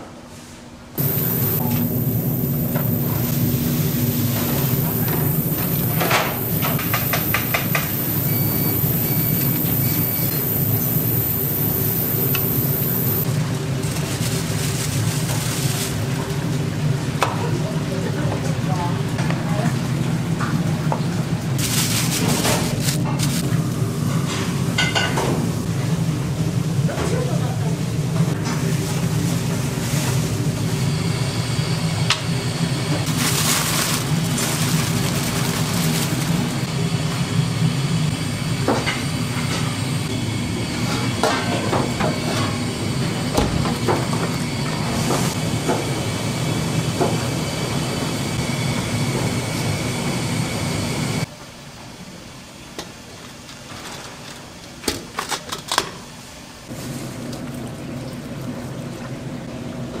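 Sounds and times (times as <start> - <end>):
restaurant low hum: 0.0 - 54.8, 56.2 - 60.0.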